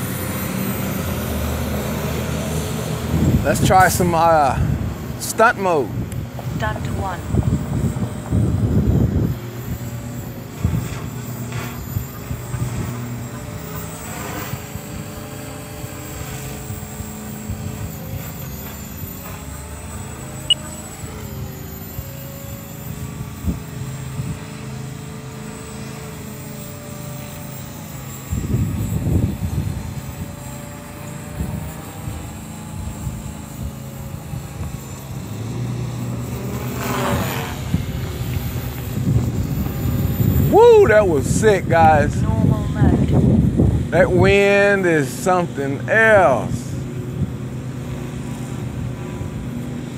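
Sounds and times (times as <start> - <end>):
wind rumbling on microphone: 0.0 - 19.4, 22.9 - 24.6, 28.2 - 49.9
model helicopter motor and rotor hum: 0.0 - 49.9.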